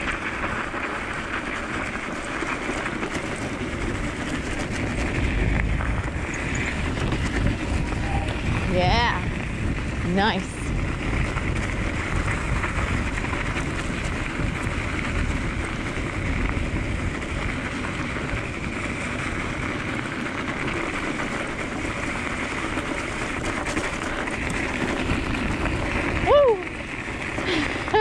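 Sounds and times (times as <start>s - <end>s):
scooter tyres crunching snow: 0.0s - 28.0s.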